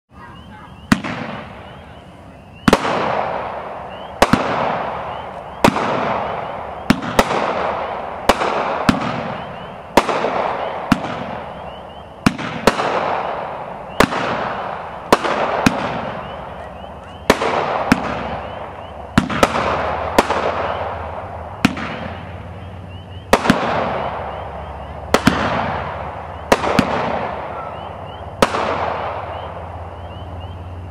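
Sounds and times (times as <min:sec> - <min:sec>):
fireworks bangs: 0:00.1 - 0:30.9
fireworks hiss: 0:00.2 - 0:30.9.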